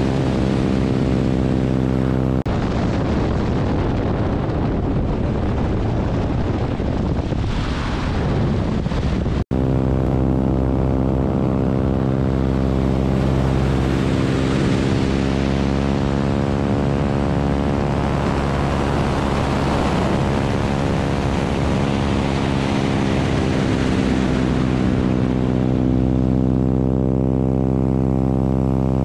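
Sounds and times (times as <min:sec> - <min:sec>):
biplane engine droning: 0:00.0 - 0:29.0
wind rushing over microphone: 0:00.0 - 0:29.0.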